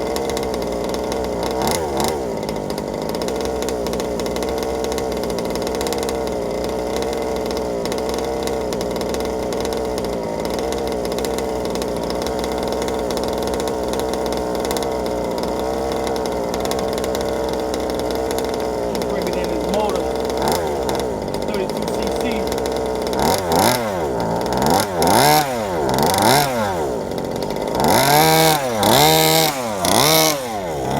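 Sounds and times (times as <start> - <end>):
two-stroke engine running: 0.0 - 30.9.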